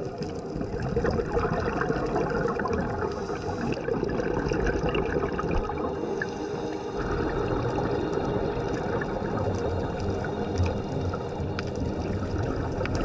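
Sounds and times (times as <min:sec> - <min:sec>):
fine crackling underwater: 0:00.0 - 0:13.0
underwater rushing: 0:00.0 - 0:13.0.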